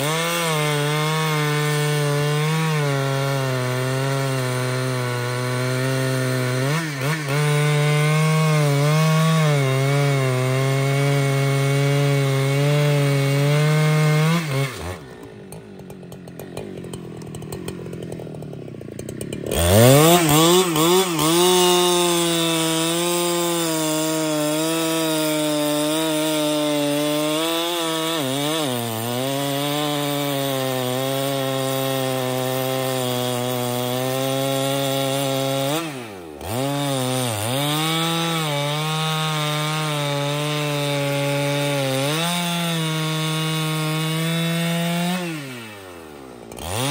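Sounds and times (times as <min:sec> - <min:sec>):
chainsaw cutting log: 0:00.0 - 0:46.9.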